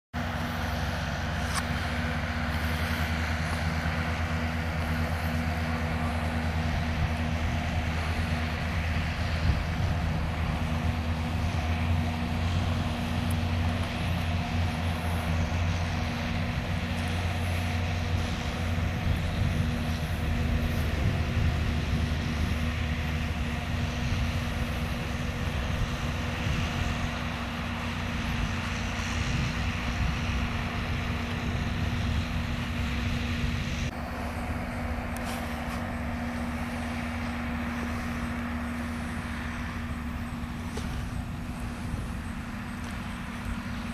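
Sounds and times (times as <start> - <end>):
farm machinery engine running: 0.1 - 43.9.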